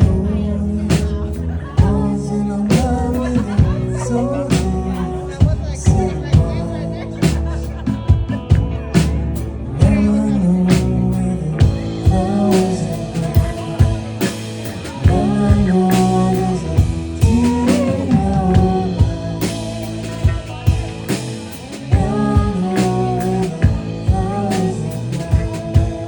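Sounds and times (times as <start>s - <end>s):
person singing: 0.0s - 9.0s, 9.6s - 26.0s
band playing rock music: 0.0s - 26.0s.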